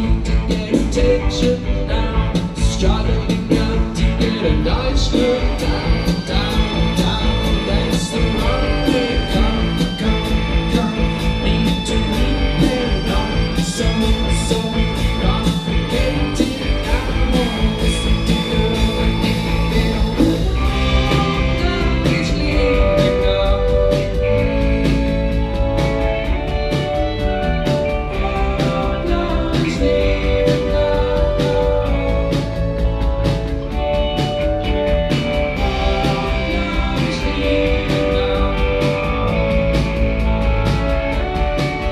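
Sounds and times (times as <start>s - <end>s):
drum kit beat: 0.0s - 41.9s
high synth notes: 0.0s - 41.9s
indie pop band playing live: 0.0s - 41.9s.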